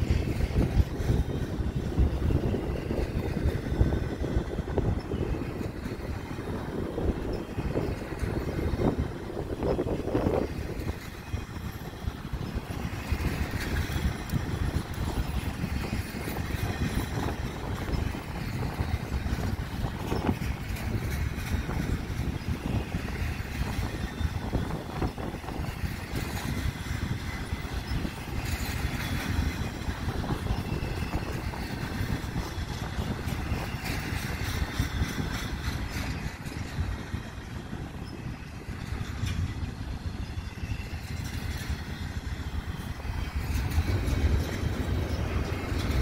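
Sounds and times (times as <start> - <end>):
steel wheels rumbling on rail: 0.0 - 46.0
wheels and couplings clanking: 0.0 - 46.0.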